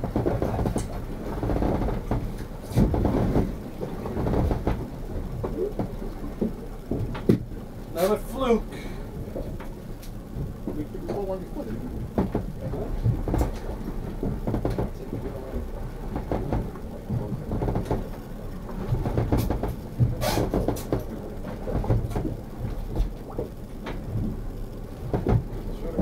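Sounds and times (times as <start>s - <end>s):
knocks and rattles: 0.0s - 7.6s, 9.3s - 26.0s
boat low rumble: 0.0s - 26.0s.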